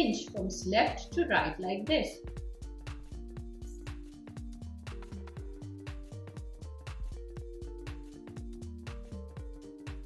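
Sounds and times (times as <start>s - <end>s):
electronic music with kick drums: 0.0s - 10.0s.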